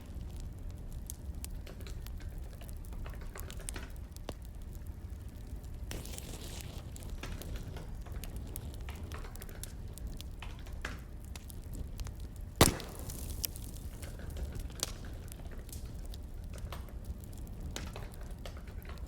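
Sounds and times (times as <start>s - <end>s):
loud sharp crack of fire: 0.0s - 19.0s
wood fire crackling: 0.0s - 19.0s.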